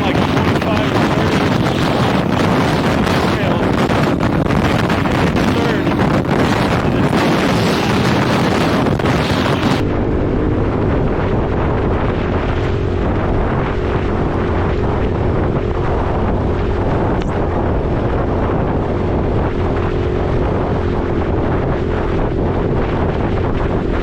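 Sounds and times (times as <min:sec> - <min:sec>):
dirt bike engine running: 0:00.0 - 0:24.0
wind buffeting microphone: 0:00.0 - 0:24.0.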